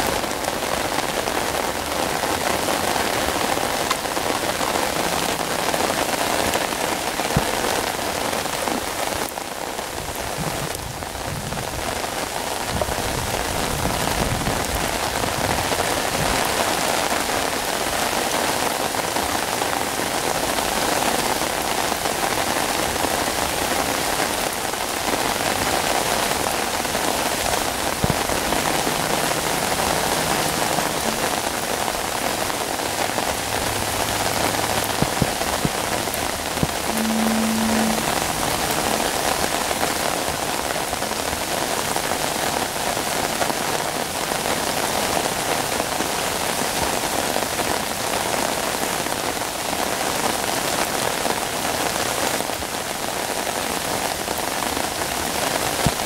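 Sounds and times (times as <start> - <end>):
heavy rain on water: 0.0 - 56.0.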